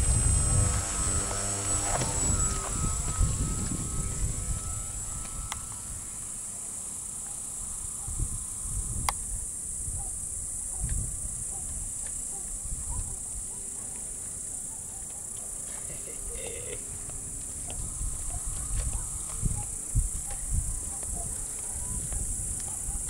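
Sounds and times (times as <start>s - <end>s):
wind buffeting microphone: 0.0s - 6.4s, 7.6s - 13.6s, 16.2s - 23.0s
field insects chirring: 0.0s - 23.0s
model plane motor whine: 0.0s - 23.0s.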